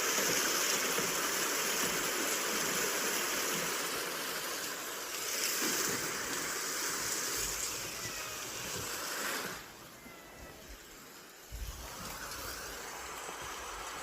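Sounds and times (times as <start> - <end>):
rain rushing hiss: 0.0 - 14.0.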